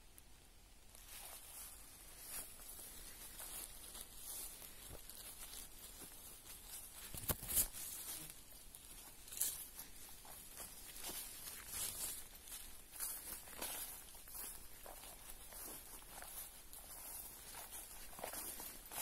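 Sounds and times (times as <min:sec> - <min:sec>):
footsteps on leaf litter: 0:00.9 - 0:19.0.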